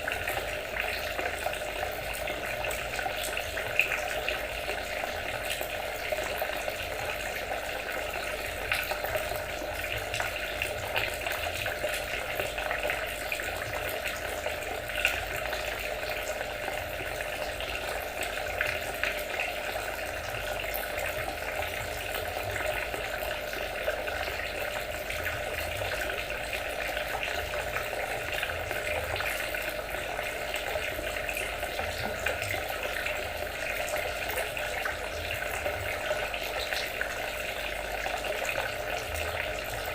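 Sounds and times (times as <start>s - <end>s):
water trickling with droplets: 0.0s - 39.9s.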